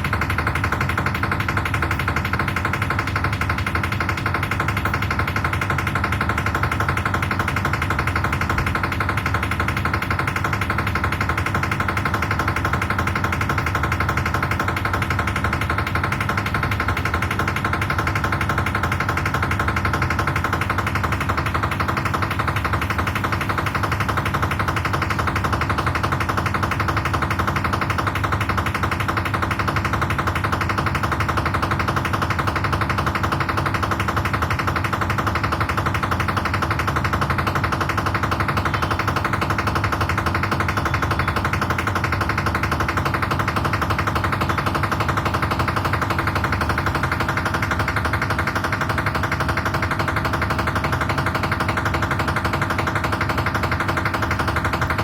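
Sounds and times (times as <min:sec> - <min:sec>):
washing machine rattling: 0:00.0 - 0:55.0.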